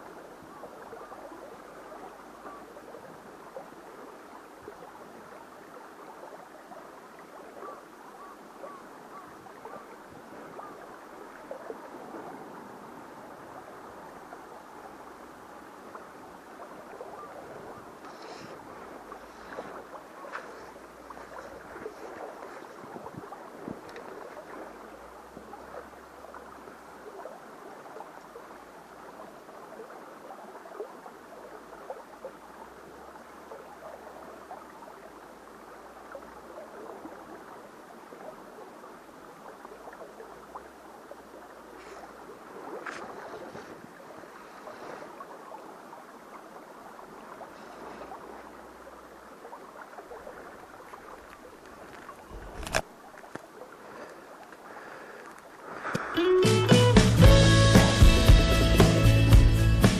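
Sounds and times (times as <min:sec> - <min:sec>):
stream water over rocks: 0:00.0 - 0:59.9.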